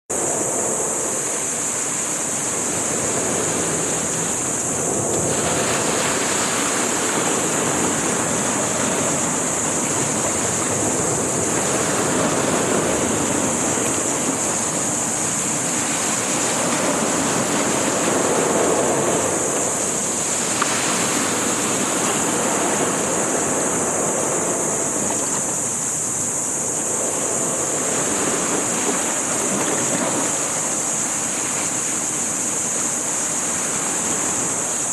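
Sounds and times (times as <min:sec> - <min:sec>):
high-pitched hiss: 0:00.1 - 0:34.9
sea waves washing: 0:00.1 - 0:34.9.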